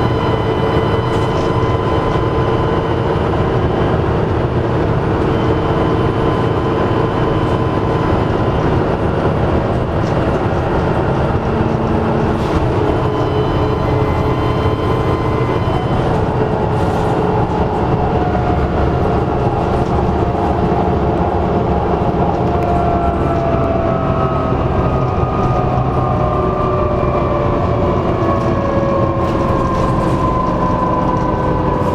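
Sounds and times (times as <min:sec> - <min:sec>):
bus engine running: 0:00.0 - 0:31.9
turbocharger whine: 0:00.0 - 0:31.9.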